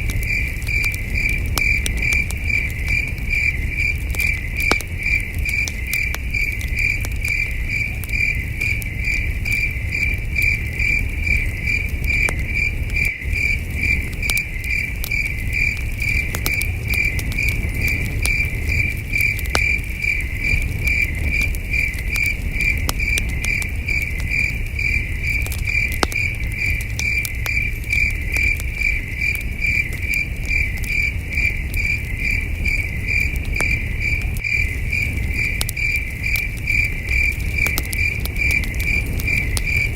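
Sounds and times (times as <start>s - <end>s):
campfire crackling with pops: 0.0s - 39.9s
crickets chirping: 0.0s - 39.9s.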